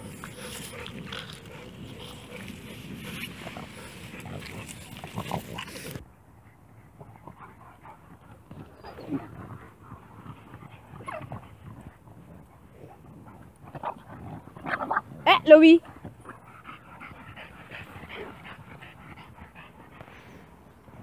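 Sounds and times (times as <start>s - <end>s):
background noise: 0.0s - 21.0s
dogs playing vocalising: 0.0s - 21.0s.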